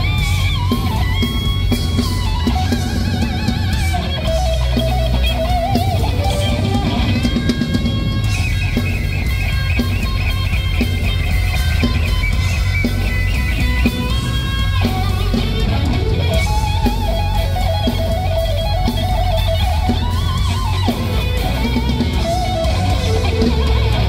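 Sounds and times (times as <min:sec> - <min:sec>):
bass and drums: 0:00.0 - 0:24.0
electric guitar solo: 0:00.0 - 0:24.0.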